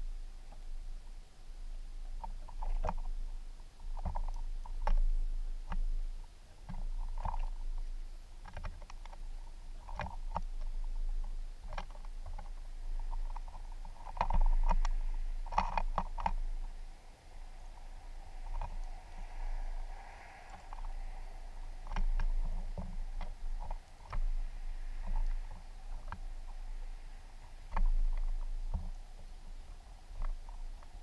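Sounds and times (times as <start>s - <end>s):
birds pecking seed on wood: 2.2s - 6.0s, 6.6s - 31.0s.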